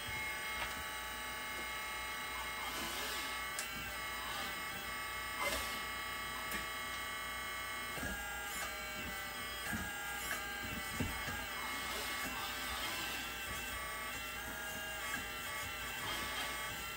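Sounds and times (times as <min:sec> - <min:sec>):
hydraulic pump whining: 0:00.0 - 0:16.9.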